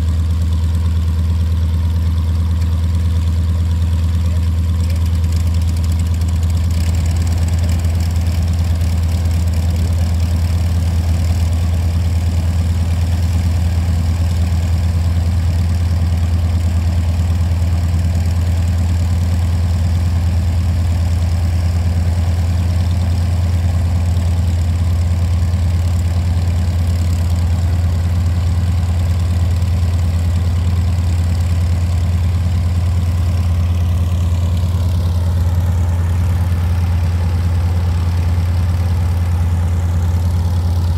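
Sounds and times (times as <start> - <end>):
radial engine idling: 0.0 - 40.9.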